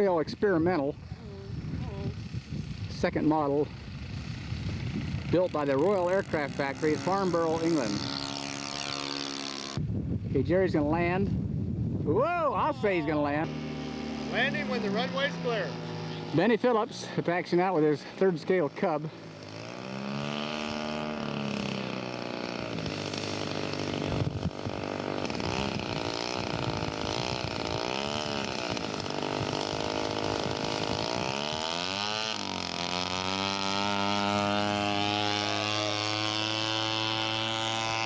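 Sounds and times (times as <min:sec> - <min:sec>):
model airplane engine revving: 0:00.0 - 0:09.8, 0:12.6 - 0:38.0.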